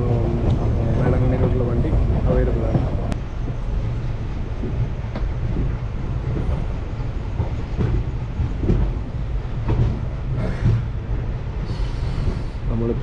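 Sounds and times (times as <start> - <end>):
train rumbling: 0.0 - 13.0
wheels clicking over rail joints: 0.0 - 13.0.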